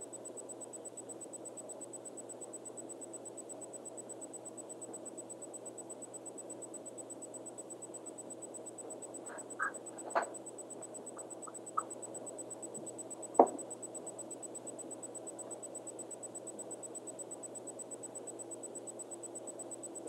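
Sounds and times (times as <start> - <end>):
faint high whine: 0.0 - 20.0
steady background hum: 0.0 - 20.0.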